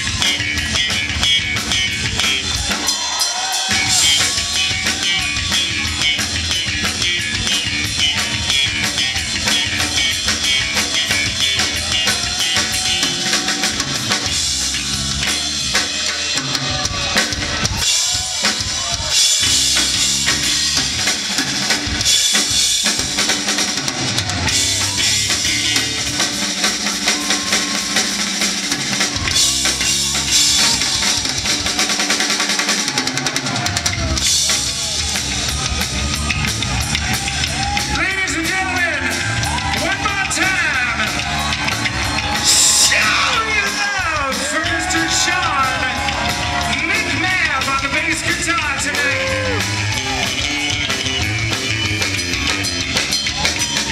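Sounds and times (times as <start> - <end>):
live rock band: 0.0 - 53.9
bass drum: 3.7 - 31.8, 33.5 - 53.9.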